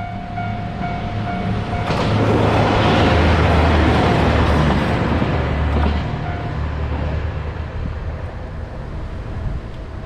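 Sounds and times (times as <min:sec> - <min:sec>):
vehicle passing rumble: 0:01.5 - 0:09.6.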